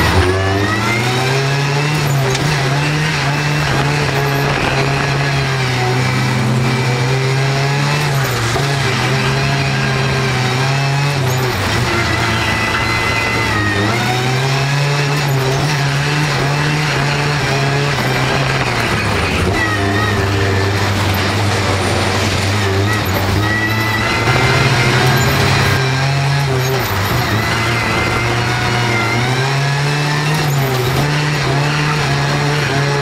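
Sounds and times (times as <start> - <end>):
race car engine accelerating: 0.0 - 33.0.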